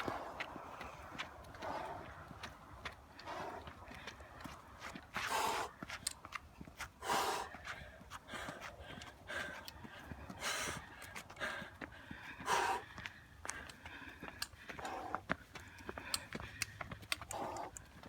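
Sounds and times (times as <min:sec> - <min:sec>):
person breathing hard: 0:00.0 - 0:06.1, 0:06.8 - 0:18.0
light footsteps: 0:00.0 - 0:18.0.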